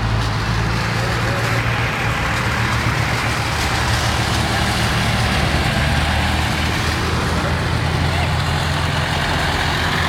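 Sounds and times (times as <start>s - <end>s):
truck diesel engine passing: 0.0s - 10.0s
tyres hissing on wet road: 0.0s - 10.0s.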